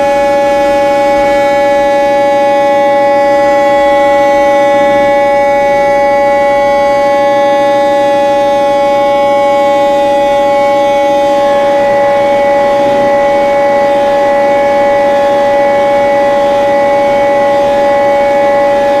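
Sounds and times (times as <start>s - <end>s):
electronic siren-like tone: 0.0s - 19.0s.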